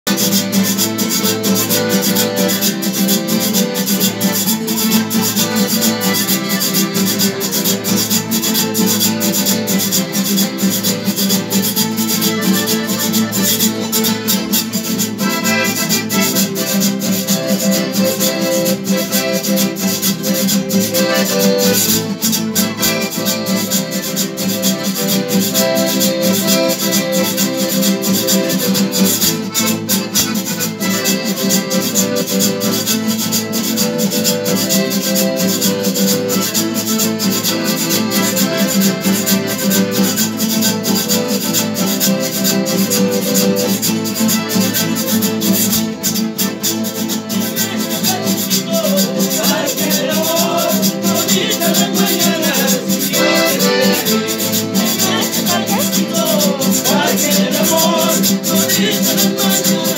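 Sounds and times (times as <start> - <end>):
acoustic guitar strumming: 0.1 - 59.9
button accordion: 0.1 - 59.9.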